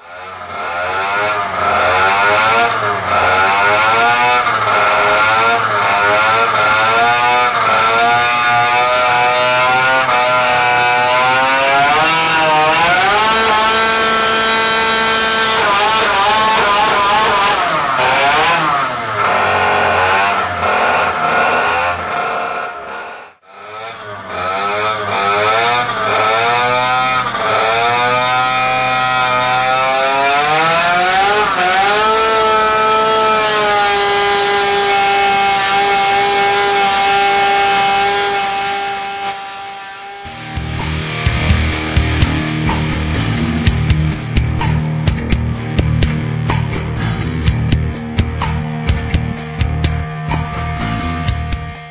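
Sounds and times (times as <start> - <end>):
turbo whine: 0.0 - 27.6, 33.9 - 51.9
two-stroke engine revving: 0.0 - 51.9.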